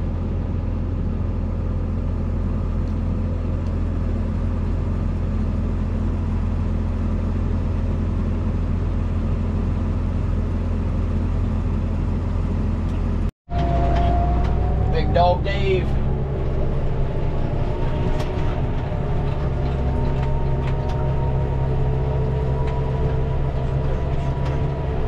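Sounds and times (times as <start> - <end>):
tractor engine drone: 0.0 - 25.0.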